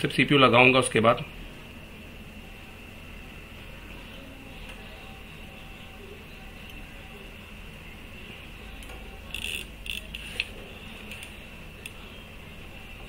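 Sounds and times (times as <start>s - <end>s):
faint high whine: 0.0s - 13.0s
steady hum: 0.0s - 13.0s.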